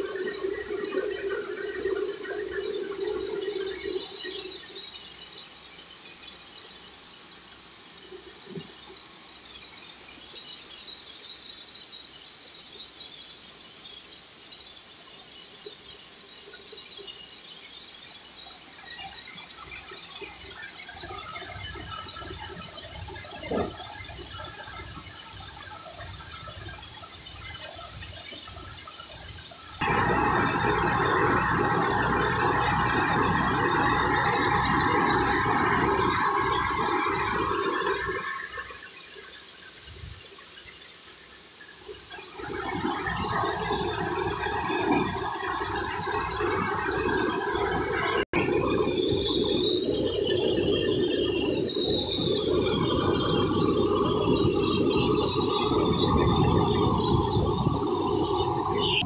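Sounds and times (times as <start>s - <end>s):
corn sheller machine squealing whine: 0.0s - 59.0s.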